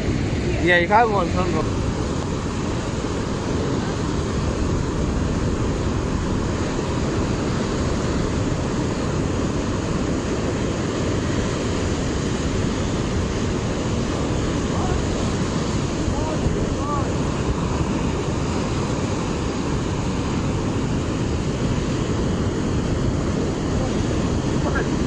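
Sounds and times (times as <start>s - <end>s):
surf breaking over rocks: 0.0s - 25.0s
wind on microphone: 0.0s - 25.0s.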